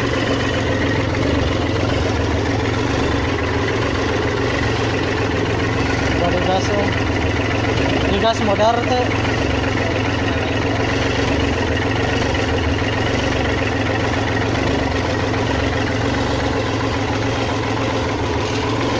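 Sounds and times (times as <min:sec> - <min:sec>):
tractor diesel engine idling: 0:00.0 - 0:18.9.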